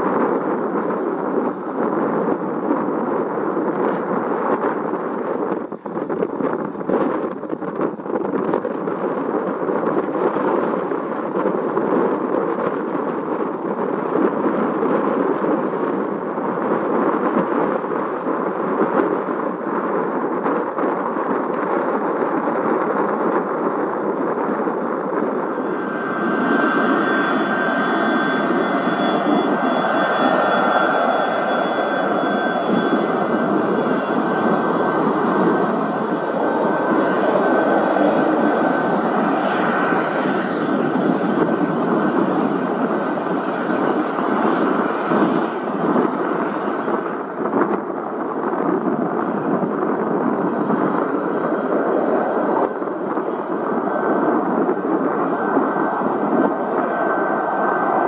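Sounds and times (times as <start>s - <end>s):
aircraft turbine engines roaring: 0.0s - 58.0s
high turbine whine: 0.0s - 58.0s.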